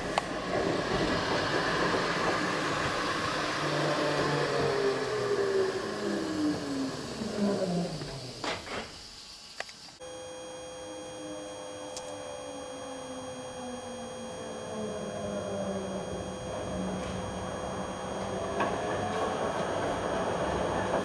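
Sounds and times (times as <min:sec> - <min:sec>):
tram motor whine: 0:00.0 - 0:21.0
steady electrical hum: 0:02.8 - 0:20.9.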